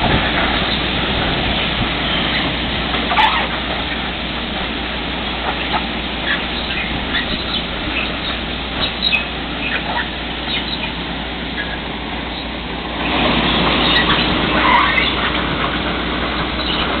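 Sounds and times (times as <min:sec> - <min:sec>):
train machinery rumbling: 0:00.0 - 0:17.0
wheels clattering on rails: 0:00.0 - 0:17.0.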